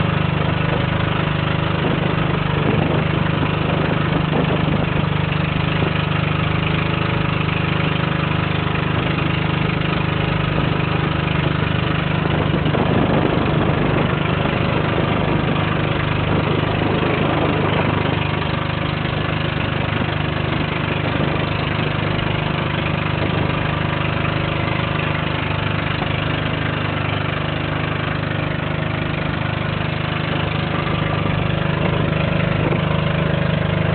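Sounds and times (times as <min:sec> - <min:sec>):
boat engine droning: 0:00.0 - 0:33.9
rushing water noise: 0:00.0 - 0:33.9.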